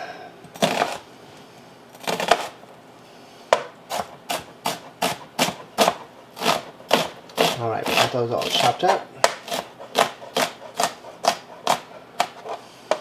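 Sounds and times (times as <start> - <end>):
knife chopping on plastic cutting board: 0.6 - 1.0, 2.0 - 2.6, 3.5 - 13.0.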